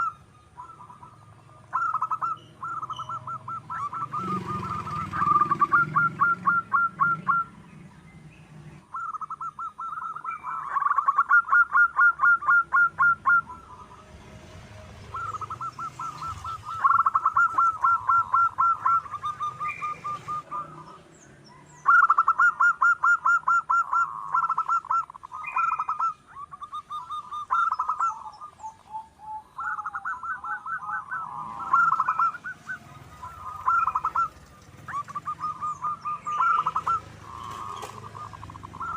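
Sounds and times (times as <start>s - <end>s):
dove cooing: 0.0s - 7.8s, 8.8s - 38.9s.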